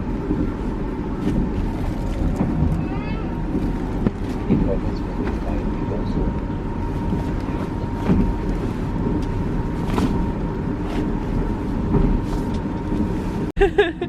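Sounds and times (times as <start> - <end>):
train rumble inside carriage: 0.0 - 14.0.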